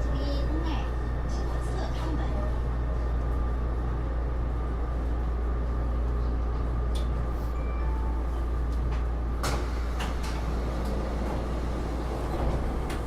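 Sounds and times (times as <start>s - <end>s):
metro car low hum: 0.0s - 13.0s.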